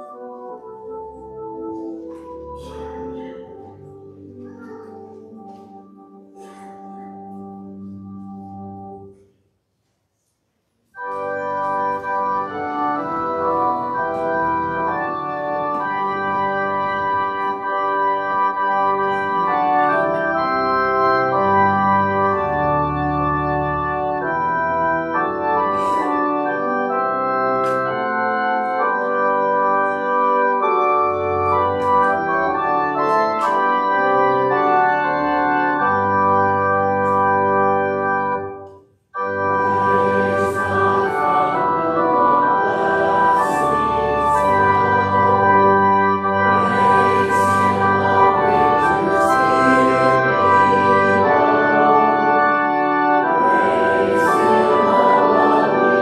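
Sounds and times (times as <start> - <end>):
organ playing slow chords: 0.0 - 9.2, 10.9 - 56.0.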